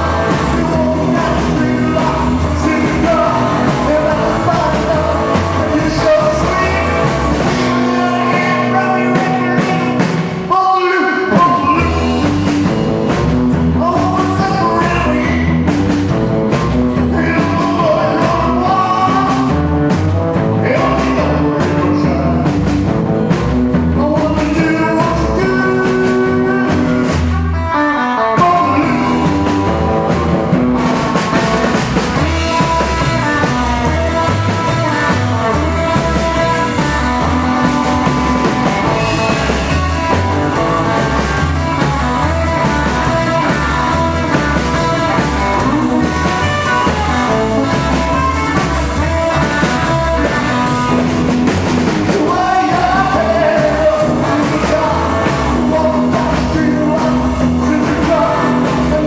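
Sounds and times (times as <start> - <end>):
person singing: 0.0 - 15.7, 16.8 - 19.7, 20.4 - 22.7, 23.9 - 59.0
rockabilly band playing: 0.0 - 59.0.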